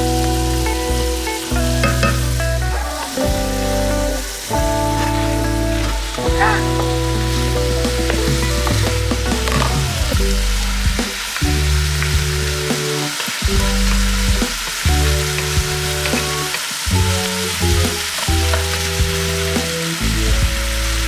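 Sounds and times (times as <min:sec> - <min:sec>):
background music with sustained chords: 0:00.0 - 0:21.0
food sizzling in a pan: 0:00.0 - 0:21.0.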